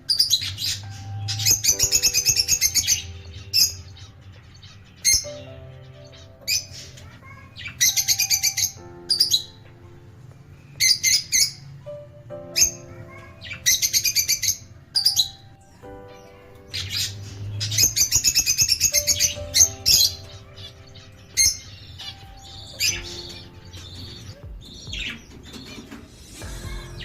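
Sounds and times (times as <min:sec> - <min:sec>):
birds chirping shrilly: 0:00.0 - 0:09.6, 0:10.6 - 0:27.0.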